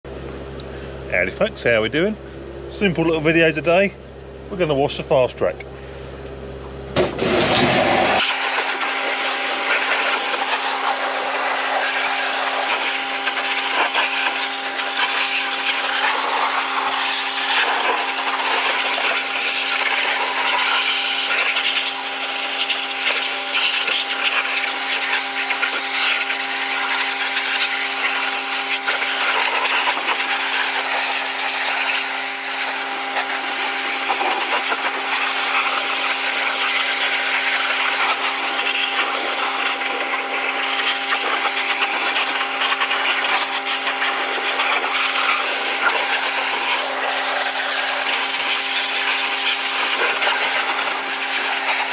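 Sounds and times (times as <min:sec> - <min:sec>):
pressure washer hum: 0:05.7 - 0:51.9
pressure washer jet hissing: 0:07.2 - 0:51.9.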